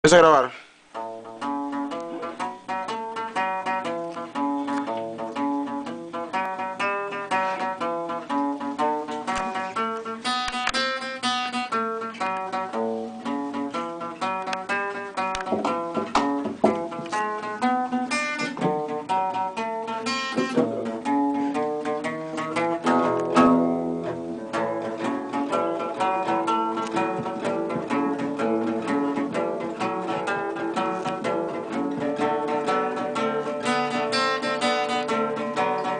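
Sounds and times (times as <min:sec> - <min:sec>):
guitars playing together: 0:00.1 - 0:35.9.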